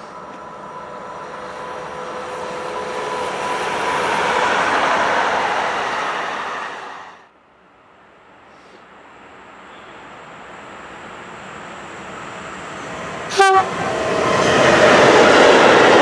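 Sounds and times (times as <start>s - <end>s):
tram wheels rushing on rails: 0.0s - 7.3s, 9.0s - 16.0s
tram whine: 0.0s - 16.0s.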